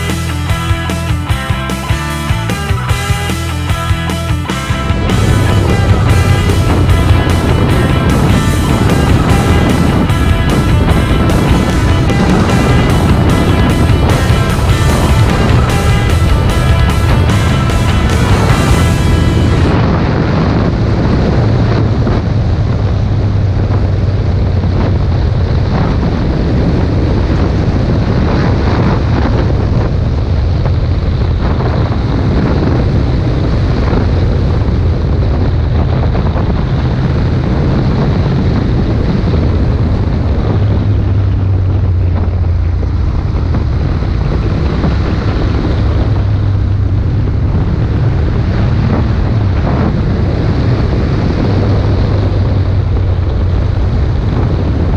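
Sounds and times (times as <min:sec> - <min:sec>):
motorcycle engine: 0:00.0 - 0:54.9
wind buffeting microphone: 0:00.0 - 0:54.9.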